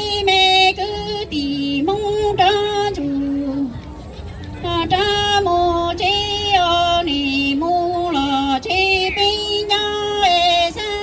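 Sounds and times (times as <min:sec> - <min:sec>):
woman singing with vibrato: 0:00.0 - 0:03.8, 0:04.5 - 0:11.0.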